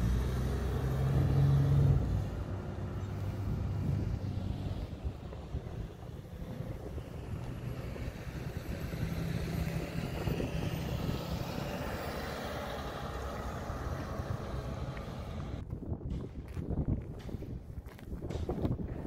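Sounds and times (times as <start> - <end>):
bus engine driving past: 0.0 - 15.7.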